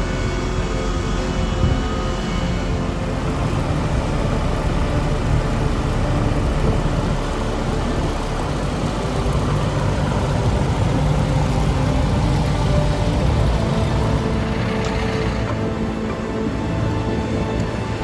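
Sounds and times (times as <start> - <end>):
heavy machinery engine rumbling: 0.0 - 18.0.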